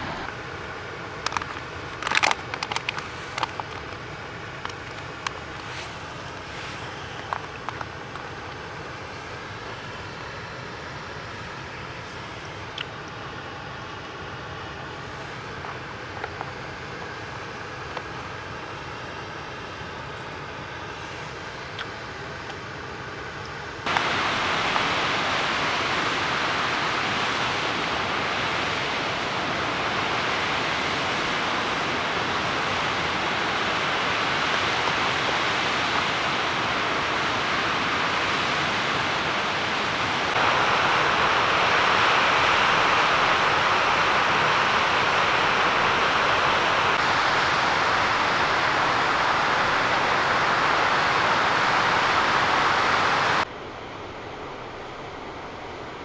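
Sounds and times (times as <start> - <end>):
waterfall cascading over rocks: 0.0 - 19.5, 22.6 - 53.5.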